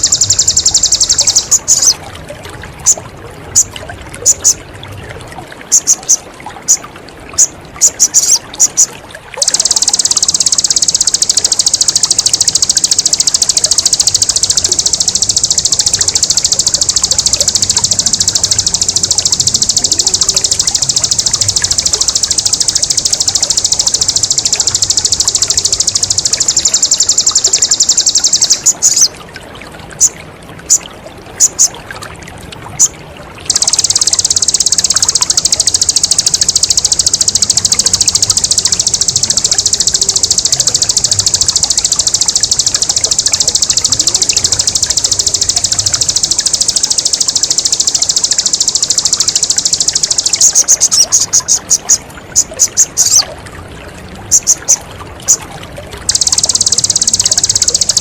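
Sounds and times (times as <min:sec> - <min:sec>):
songbird rapid high trill: 0:00.0 - 0:02.0, 0:02.8 - 0:04.6, 0:05.7 - 0:29.2, 0:30.0 - 0:30.8, 0:31.4 - 0:31.8, 0:33.5 - 0:53.3, 0:54.3 - 0:55.4, 0:56.0 - 0:58.0
trickling water: 0:00.0 - 0:58.0.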